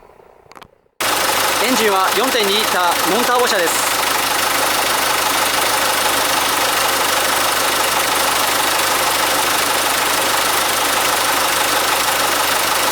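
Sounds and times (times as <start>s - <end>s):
diesel engine idling: 1.0s - 12.9s.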